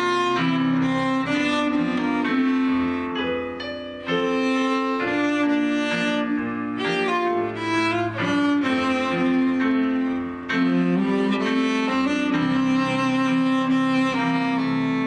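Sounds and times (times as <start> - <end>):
cello bowing held notes: 0.0 - 15.0
piano chords: 0.0 - 15.0.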